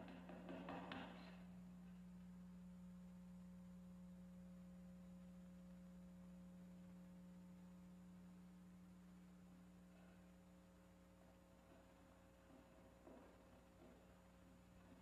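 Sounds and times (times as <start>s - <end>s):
low hum: 1.2s - 15.0s.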